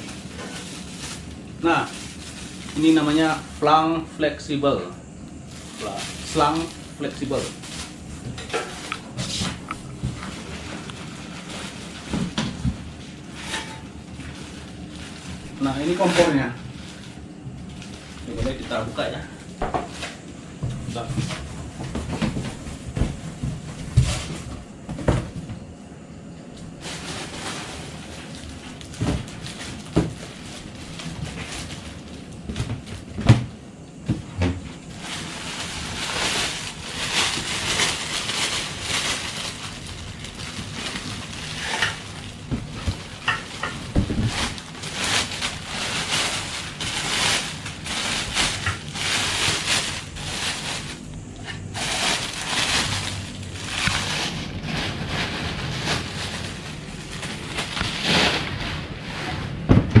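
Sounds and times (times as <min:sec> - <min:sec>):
plastic wrap and cardboard rustling: 0:00.0 - 1:00.0.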